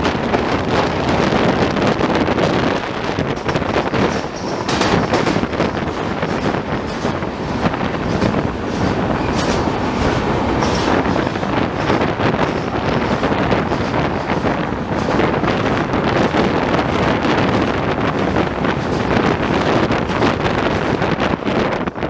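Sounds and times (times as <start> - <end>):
train coaches rumbling: 0.0 - 22.0
wheels clicking on track: 0.0 - 22.0.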